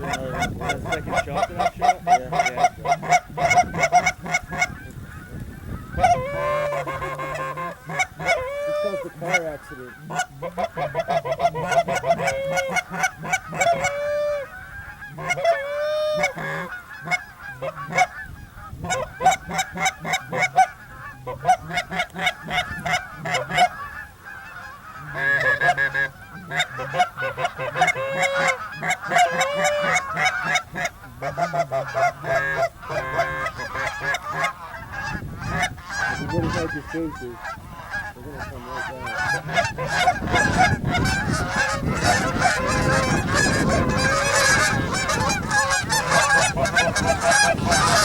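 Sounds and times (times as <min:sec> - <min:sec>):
goose honking: 0:00.0 - 0:48.0.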